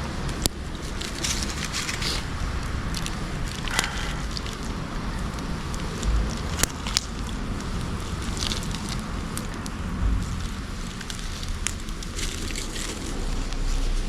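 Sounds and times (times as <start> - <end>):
bonfire crackling and hissing: 0.0 - 14.0
low bumps: 0.0 - 14.0.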